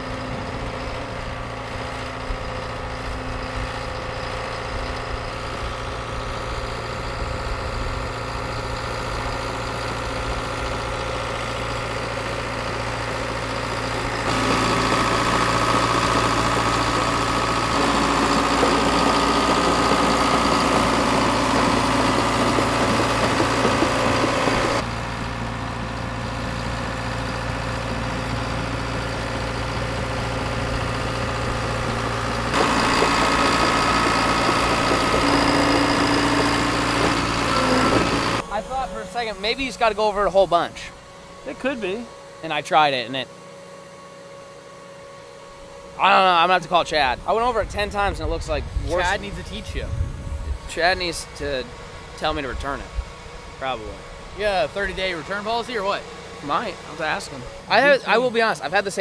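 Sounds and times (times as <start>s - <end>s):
diesel dozer engine running: 0.0s - 59.0s.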